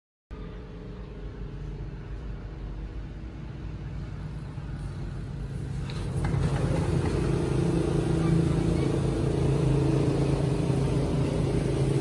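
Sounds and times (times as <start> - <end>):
vehicle approaching: 0.3 - 12.0.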